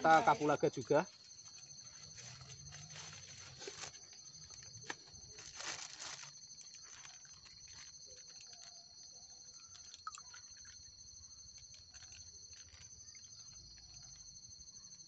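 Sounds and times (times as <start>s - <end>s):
high-pitched insect chorus trilling: 0.0s - 15.0s.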